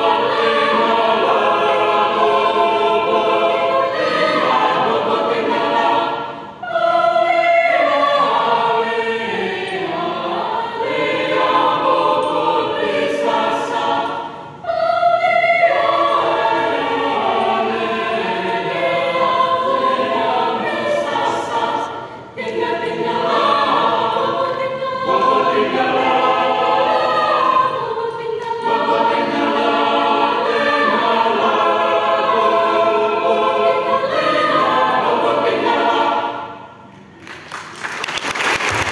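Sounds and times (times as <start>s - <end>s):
choir singing in parts: 0.0s - 37.1s.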